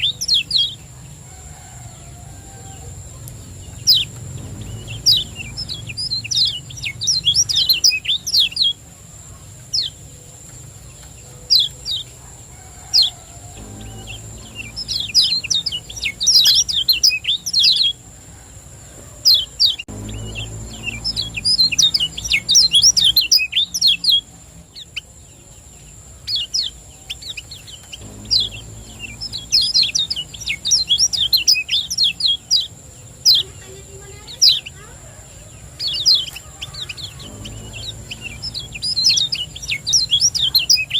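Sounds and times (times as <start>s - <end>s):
bird chirping song: 0.0s - 18.4s, 19.2s - 40.9s
faint high-pitched whine: 0.0s - 40.9s.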